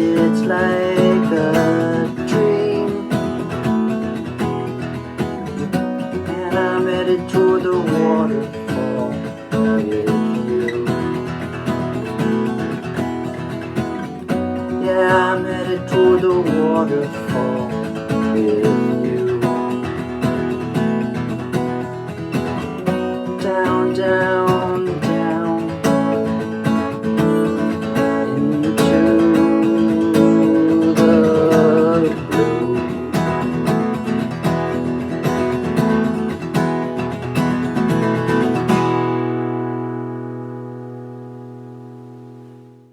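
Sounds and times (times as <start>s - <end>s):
strummed acoustic guitar: 0.0s - 42.9s.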